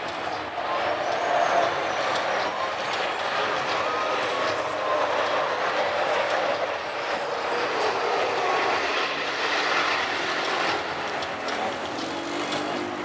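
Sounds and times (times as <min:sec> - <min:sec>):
diesel truck engines racing: 0:00.0 - 0:13.0.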